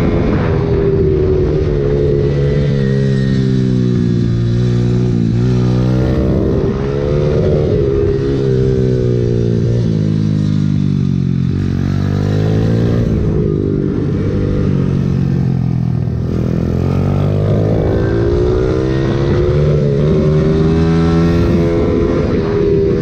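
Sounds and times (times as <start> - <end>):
motorbike engine revving: 1.4 - 23.0.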